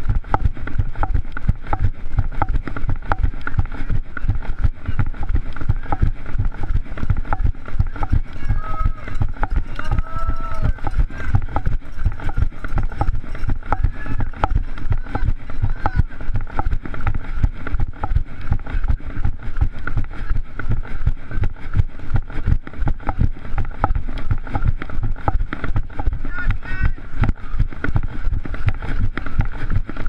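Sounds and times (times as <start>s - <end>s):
runner's footfalls: 0.0s - 30.0s
wind rumble on microphone: 0.0s - 30.0s.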